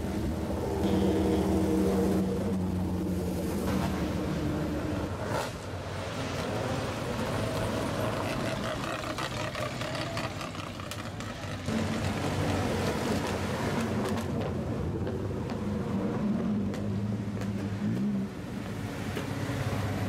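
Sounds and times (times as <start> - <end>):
rotary engine at low revs: 0.0 - 20.0.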